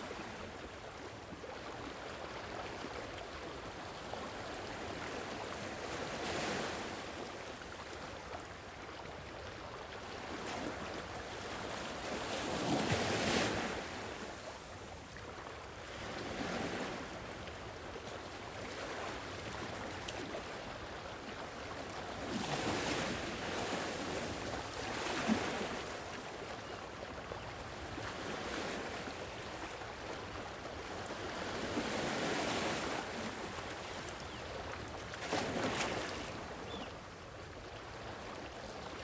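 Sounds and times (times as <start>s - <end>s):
gentle sea waves on shore: 0.0s - 39.0s.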